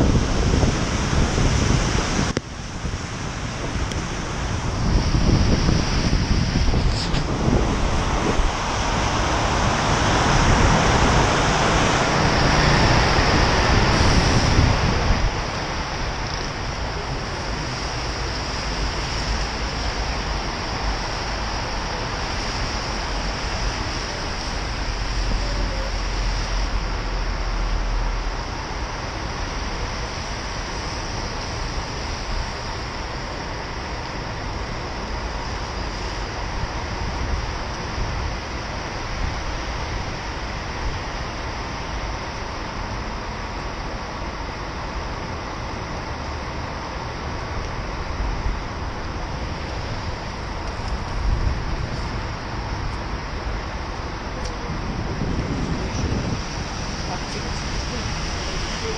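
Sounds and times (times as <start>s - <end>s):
city traffic: 0.0s - 58.9s
rushing noise: 0.0s - 58.9s
tyre hiss on wet road: 0.0s - 58.9s.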